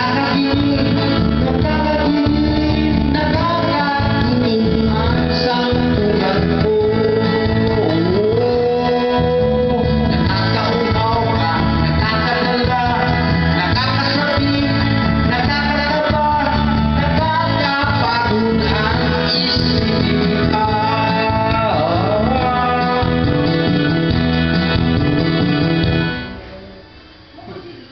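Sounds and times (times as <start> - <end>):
man singing into a microphone: 0.0 - 24.0
backing track over loudspeaker: 0.0 - 27.9.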